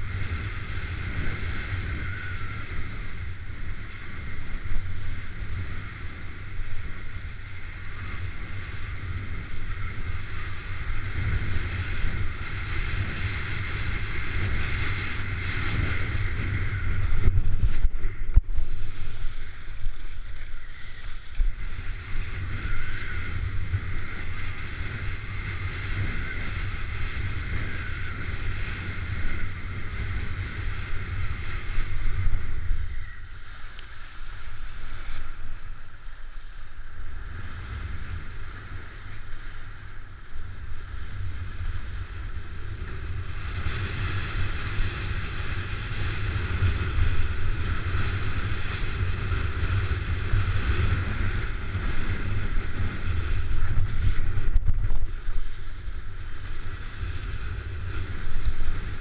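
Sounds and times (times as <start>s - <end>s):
board hissing over water: 0.0s - 59.0s
wind rumbling on microphone: 0.0s - 59.0s.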